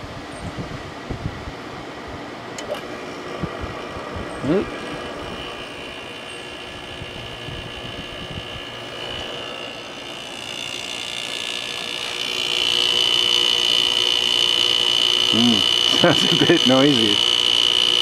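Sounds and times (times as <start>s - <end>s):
air conditioner humming: 0.0s - 18.0s.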